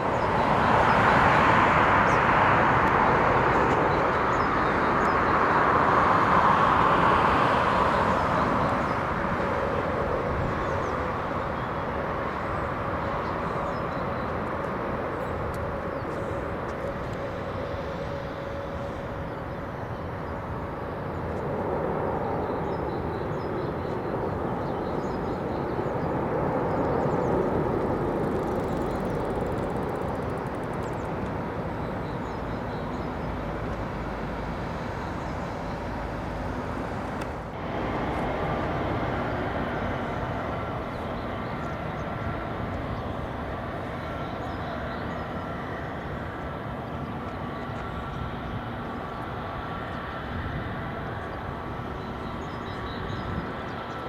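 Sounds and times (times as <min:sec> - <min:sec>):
faint engine whine: 0:00.0 - 0:54.0
jet engines roaring: 0:00.0 - 0:54.0.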